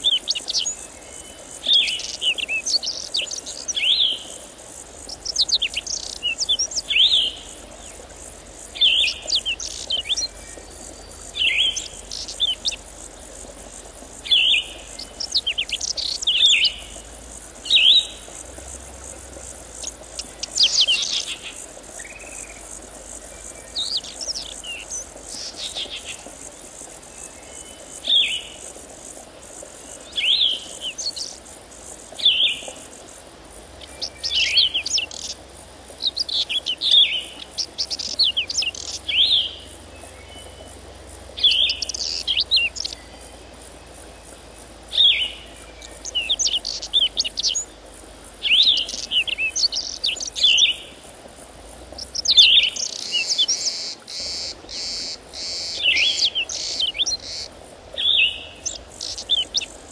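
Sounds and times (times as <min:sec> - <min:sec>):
high insect trill: 0:00.0 - 0:59.9
songbirds chirping: 0:00.0 - 0:59.9.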